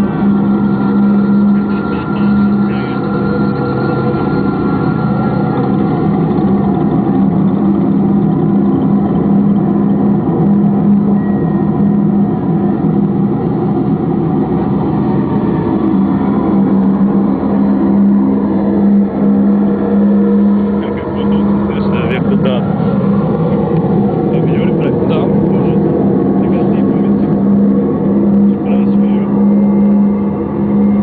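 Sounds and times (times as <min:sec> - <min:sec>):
engine-like drone: 0:00.0 - 0:31.0.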